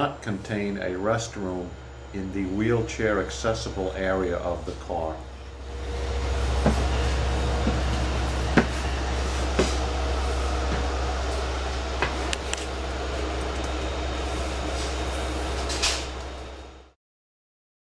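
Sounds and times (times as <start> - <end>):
train coach interior hum: 0.0 - 16.9.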